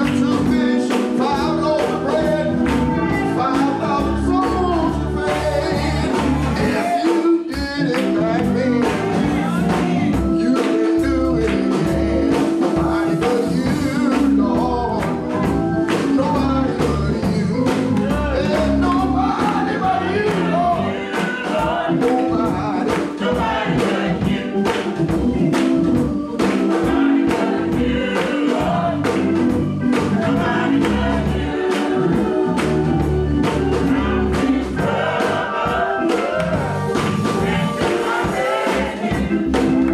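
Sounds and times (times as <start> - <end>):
band accompaniment with bass: 0.0 - 39.9
gospel choir singing: 0.0 - 39.9.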